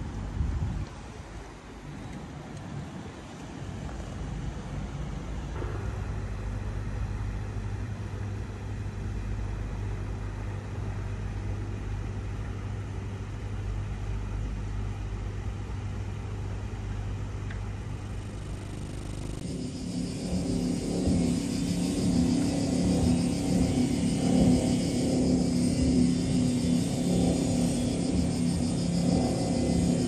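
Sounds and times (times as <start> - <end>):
engine or generator droning: 2.9 - 30.0.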